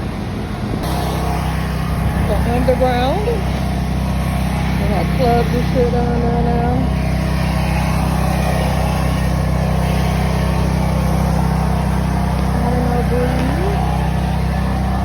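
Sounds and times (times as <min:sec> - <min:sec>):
city vehicle rumble: 0:00.0 - 0:15.0.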